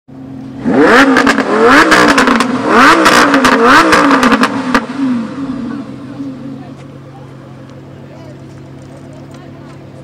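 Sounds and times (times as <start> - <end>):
sports car engine blipping: 0.1 - 10.0.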